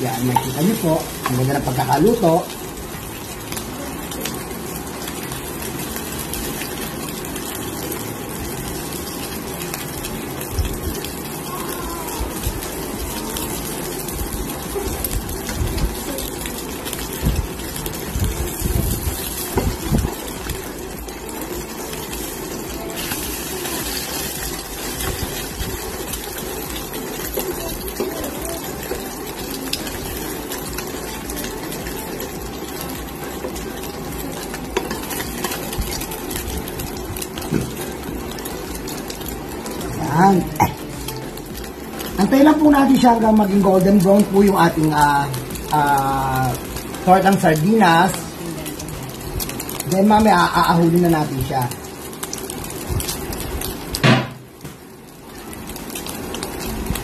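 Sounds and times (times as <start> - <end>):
patties sizzling in oil: 0.0 - 57.0.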